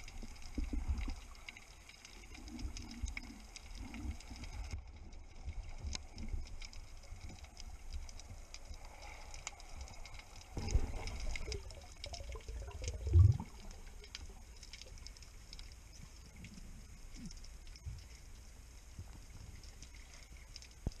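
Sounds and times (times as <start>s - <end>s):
rumble of moving water: 0.0s - 21.0s
underwater crackle of clicks: 0.0s - 21.0s.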